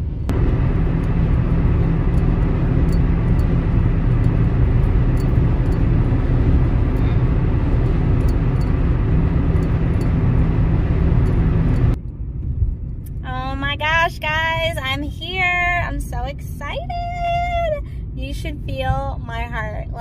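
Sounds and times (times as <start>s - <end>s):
car tyre and engine rumble: 0.0s - 20.0s.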